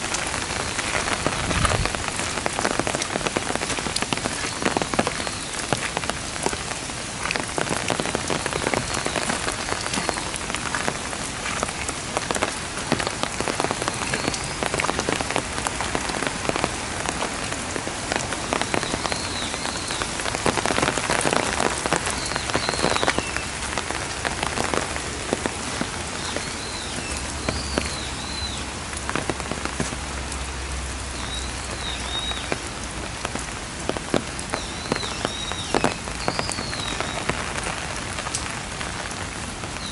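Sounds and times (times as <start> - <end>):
heavy rain on paving and foliage: 0.0 - 39.9.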